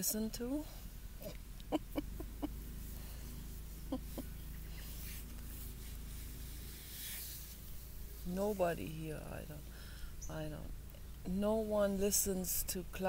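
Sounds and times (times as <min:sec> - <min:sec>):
faint distant radio music: 0:00.0 - 0:13.0.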